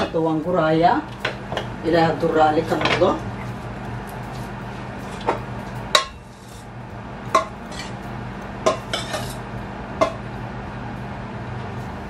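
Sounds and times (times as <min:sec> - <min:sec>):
low hum: 0:00.1 - 0:12.0.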